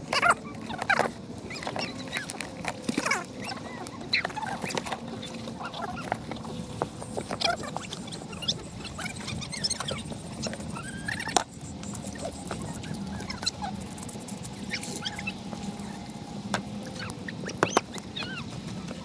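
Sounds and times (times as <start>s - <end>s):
squeaky animal calls: 0.0s - 19.0s.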